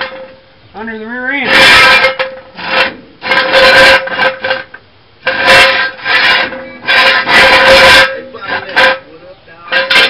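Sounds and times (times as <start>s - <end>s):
jack stand scraping on concrete: 0.0s - 0.3s, 1.4s - 9.1s, 9.7s - 10.0s.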